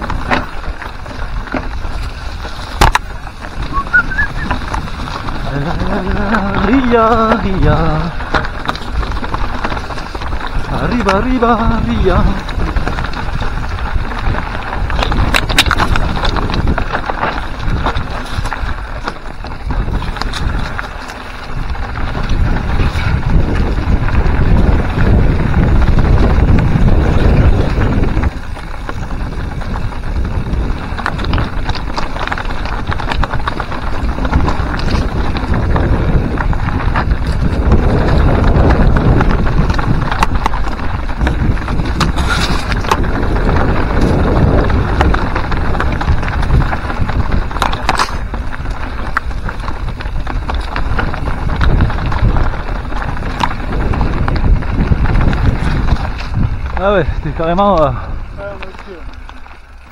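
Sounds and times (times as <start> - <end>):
bike rattling over bumps: 0.0 - 59.9
tyres crunching on gravel: 0.0 - 59.9
wind rushing over microphone: 0.0 - 59.9.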